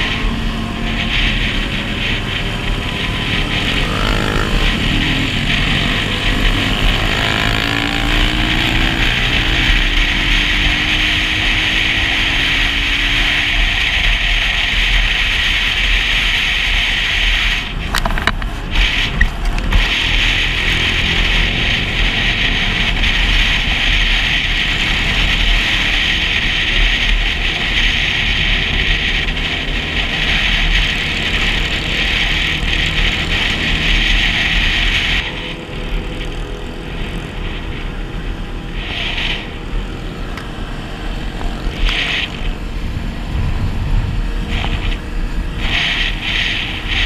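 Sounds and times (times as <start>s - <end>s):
motorcycle engine and road rumble: 0.0s - 47.0s
wind rushing over camera: 0.0s - 47.0s.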